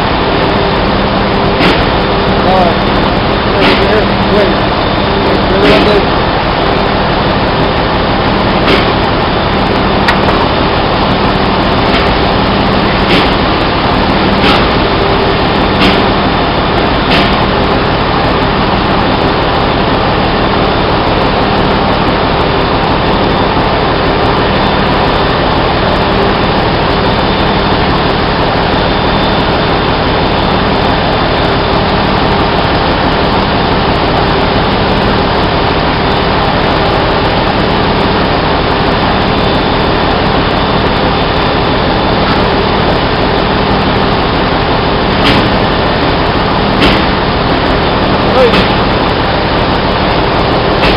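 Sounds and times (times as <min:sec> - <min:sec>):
engine room machinery roar: 0:00.0 - 0:50.9.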